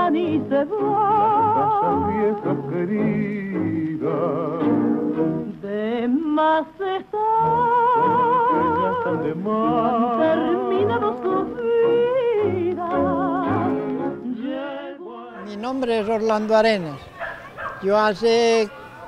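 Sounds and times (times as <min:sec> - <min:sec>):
person singing with vibrato: 0:00.0 - 0:15.6.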